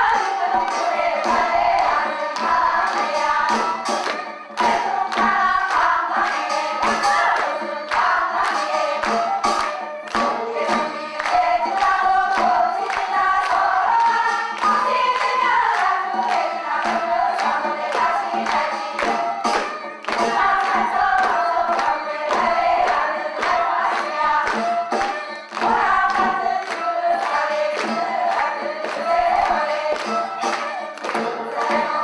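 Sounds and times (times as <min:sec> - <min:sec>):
group singing in chorus: 0:00.0 - 0:32.0
sharp percussive strokes: 0:00.0 - 0:32.0.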